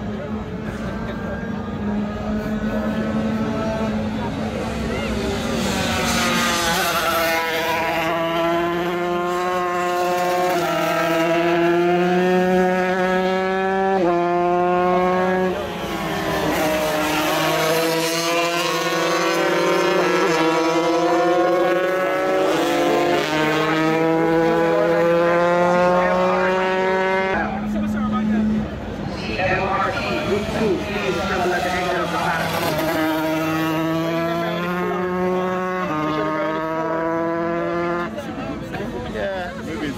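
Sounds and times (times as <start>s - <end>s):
racing motorcycle engines: 0.0s - 39.9s.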